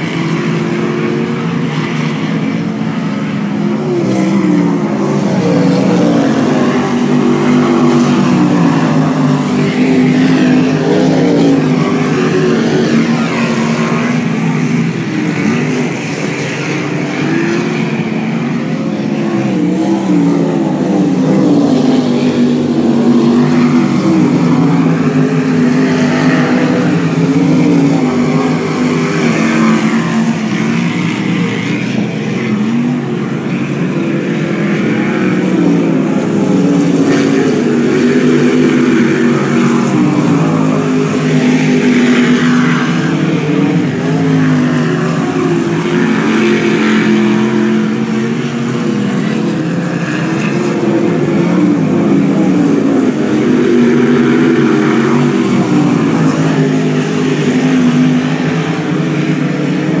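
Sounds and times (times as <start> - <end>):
racing car engines revving: 0.0 - 60.0.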